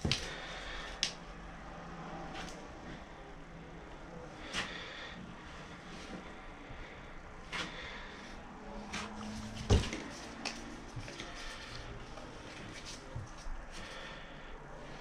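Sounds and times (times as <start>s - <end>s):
low steady background hum: 0.0s - 15.0s.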